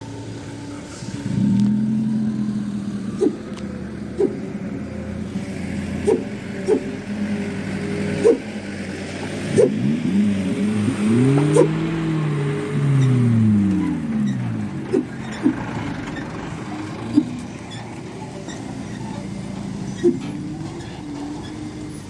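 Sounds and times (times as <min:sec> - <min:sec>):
vehicle engine revving hard: 0:00.0 - 0:22.0.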